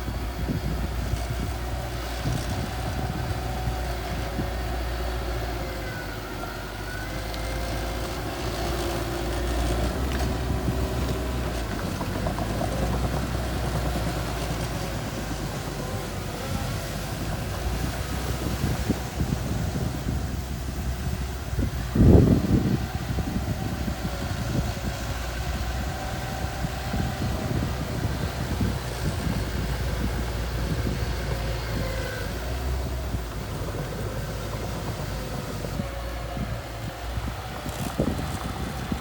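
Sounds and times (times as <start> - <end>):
bulldozer engine humming: 0.0 - 39.0.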